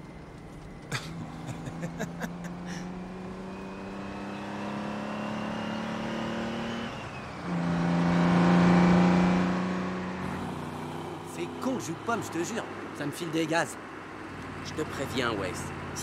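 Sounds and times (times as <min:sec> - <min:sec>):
truck diesel engine drone: 0:00.0 - 0:16.0.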